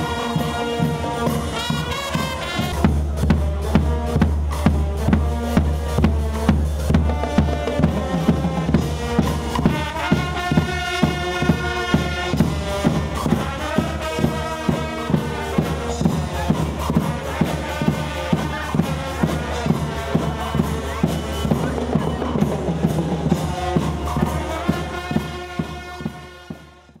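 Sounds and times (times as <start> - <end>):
music with drum beat: 0.0 - 27.0.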